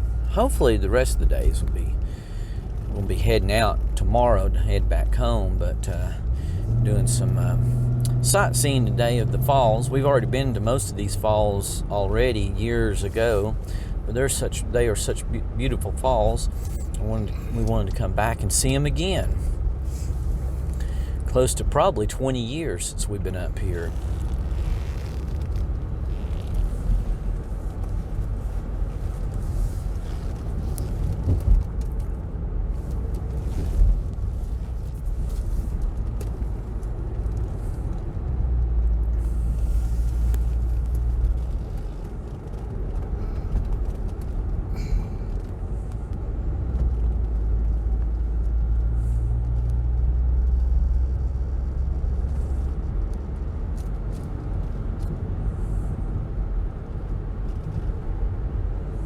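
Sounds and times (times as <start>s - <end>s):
car interior road rumble: 0.0s - 59.0s.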